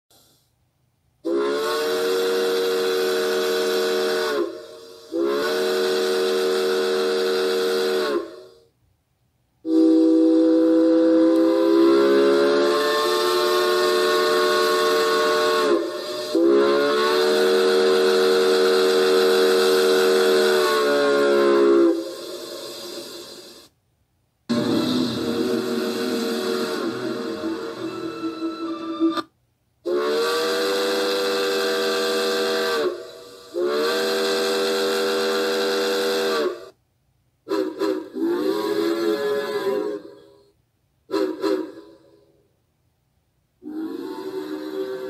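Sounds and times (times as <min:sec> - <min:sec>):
steam whistle blasts: 0:01.2 - 0:08.8, 0:09.6 - 0:23.7, 0:24.5 - 0:36.8, 0:37.4 - 0:42.4, 0:43.6 - 0:45.0
rush of steam: 0:01.3 - 0:08.7, 0:10.6 - 0:23.8, 0:24.5 - 0:29.2, 0:29.9 - 0:36.8, 0:37.5 - 0:40.5, 0:43.6 - 0:45.0.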